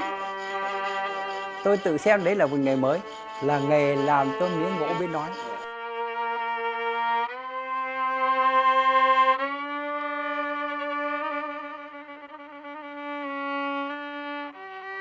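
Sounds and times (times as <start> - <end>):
solo violin playing: 0.0 - 15.0.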